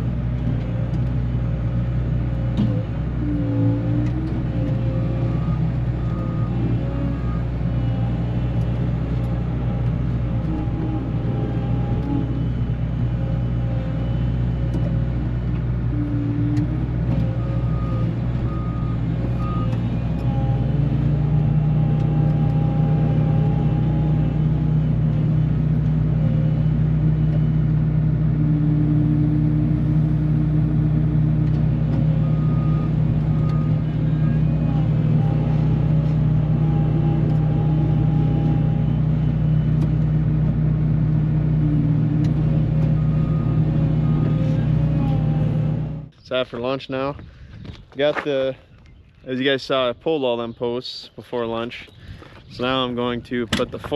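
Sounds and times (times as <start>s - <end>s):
heavy farm machine engine: 0.0s - 53.9s.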